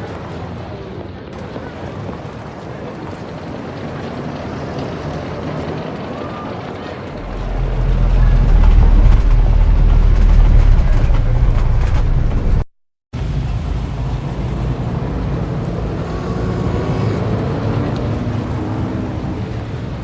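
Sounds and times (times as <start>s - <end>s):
heavy low vehicle rumble: 0.0s - 20.0s
street traffic: 0.0s - 20.0s.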